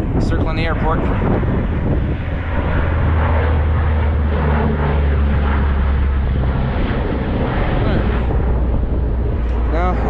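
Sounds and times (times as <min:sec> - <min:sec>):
turboprop plane flying over: 0:00.0 - 0:10.0.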